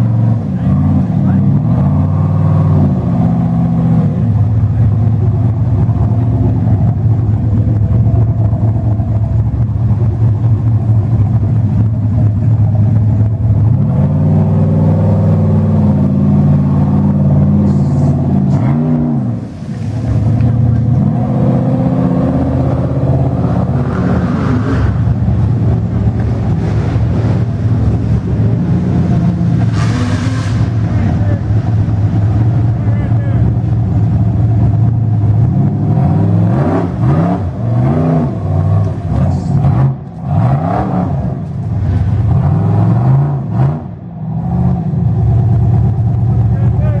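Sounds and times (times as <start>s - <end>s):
buggy engine revving: 0.0s - 47.0s.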